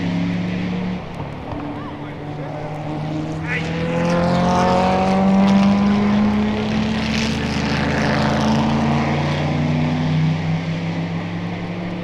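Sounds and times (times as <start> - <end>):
car passing by: 0.0 - 12.0
racing car engines at full throttle: 0.0 - 12.0.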